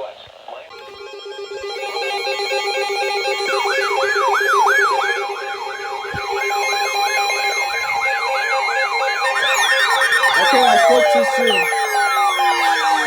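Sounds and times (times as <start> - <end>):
electronic siren yelping: 0.8 - 6.0, 6.6 - 13.0.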